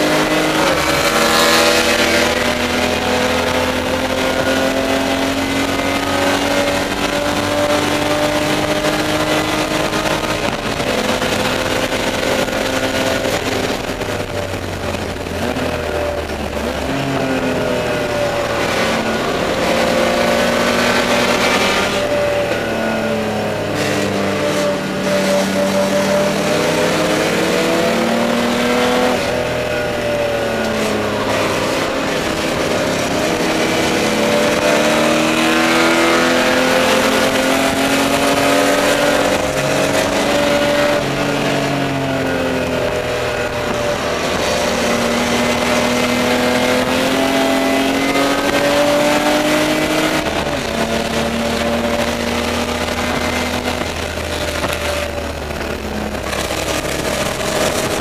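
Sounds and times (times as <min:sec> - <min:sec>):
race car engine revving: 0:00.0 - 0:58.0
road and wind noise: 0:00.0 - 0:58.0.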